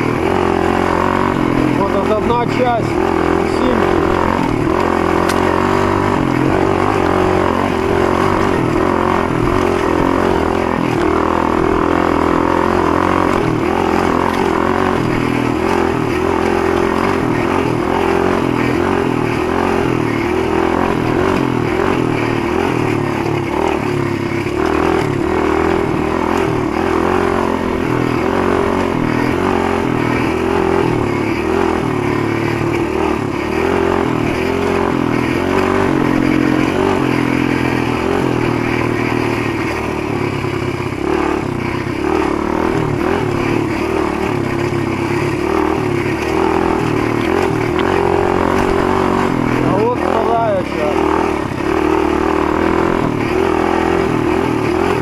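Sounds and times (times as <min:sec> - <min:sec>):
motorbike engine running: 0:00.0 - 0:55.0.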